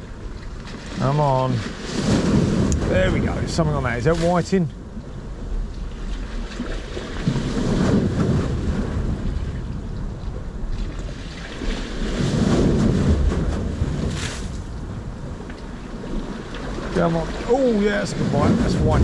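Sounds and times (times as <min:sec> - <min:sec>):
sea waves surging: 0:00.0 - 0:19.0
wind buffeting microphone: 0:00.0 - 0:19.0.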